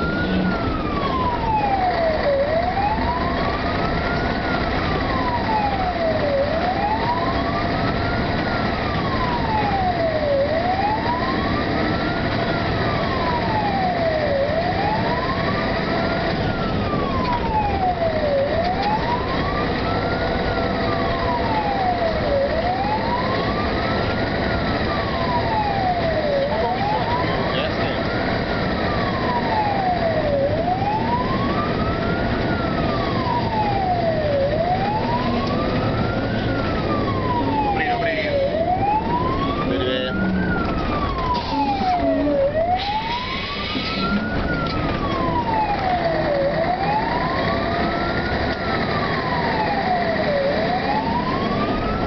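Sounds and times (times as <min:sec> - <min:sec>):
fire engine siren wailing: 0:00.0 - 0:52.0
truck engine and tyres on road: 0:00.0 - 0:52.0.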